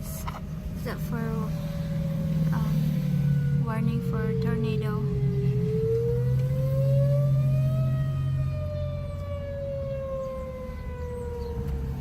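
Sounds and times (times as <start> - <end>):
low hum: 0.0 - 12.0
warning siren wailing: 0.0 - 12.0.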